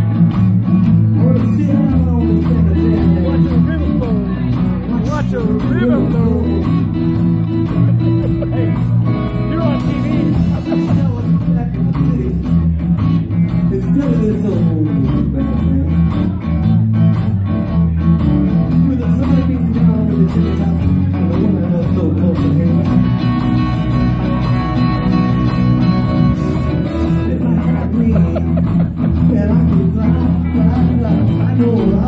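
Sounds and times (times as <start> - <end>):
drum kit: 0.0 - 32.0
electric and acoustic guitars: 0.0 - 32.0.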